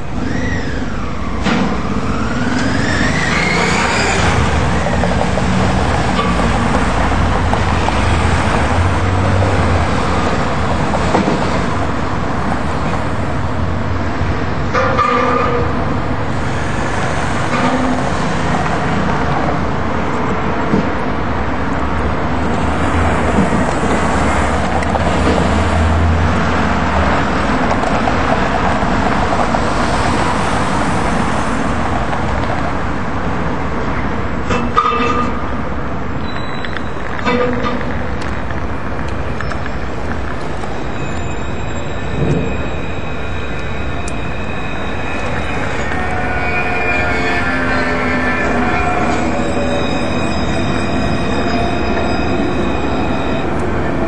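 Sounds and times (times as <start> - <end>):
vehicles passing: 0.1 - 54.0.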